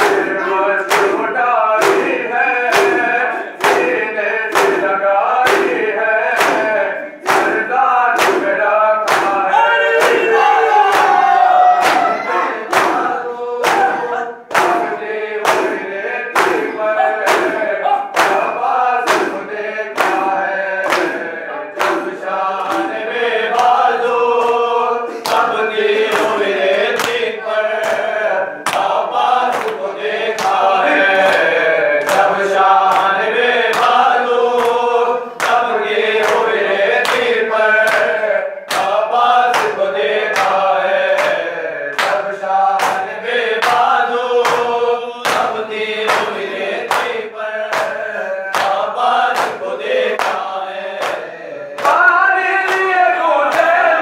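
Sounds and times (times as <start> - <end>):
hands slapping chests: 0.0 - 53.8
men chanting in unison: 0.0 - 54.0.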